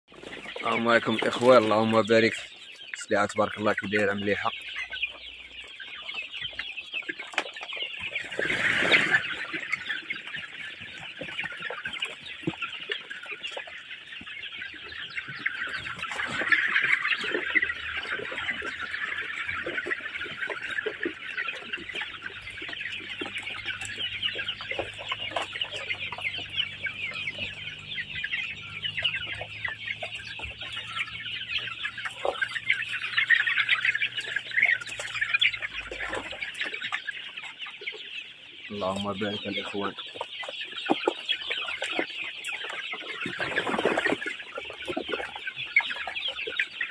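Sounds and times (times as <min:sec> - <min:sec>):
chicks peeping and clucking: 0:00.1 - 0:46.9.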